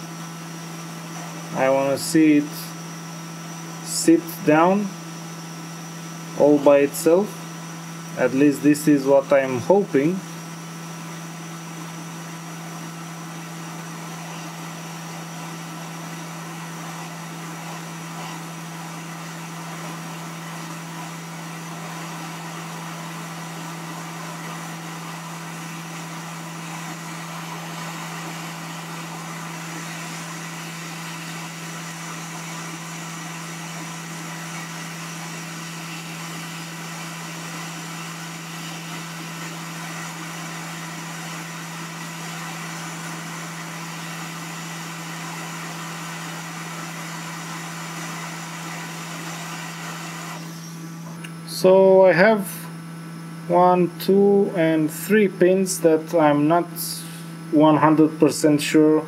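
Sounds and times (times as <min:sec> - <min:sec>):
hot air blower rushing: 0:00.0 - 0:59.0
steady hum: 0:00.0 - 0:59.0.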